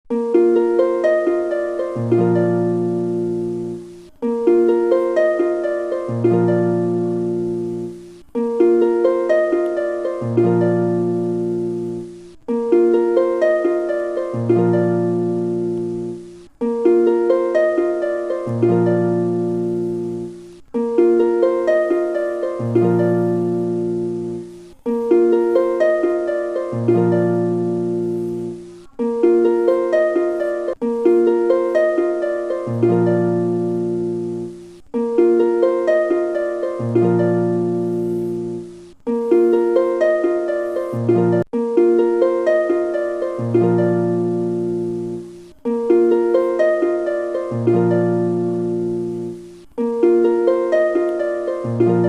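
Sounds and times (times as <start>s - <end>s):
harp-like plucked-string music: 0.1s - 52.0s.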